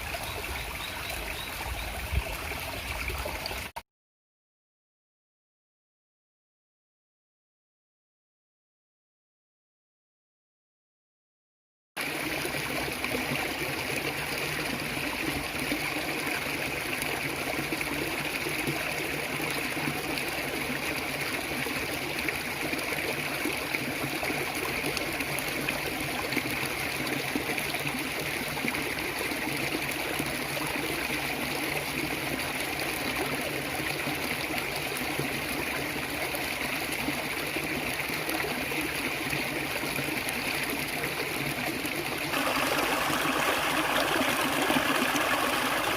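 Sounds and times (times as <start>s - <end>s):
stream flowing over rocks: 0.0s - 3.7s, 12.0s - 45.9s.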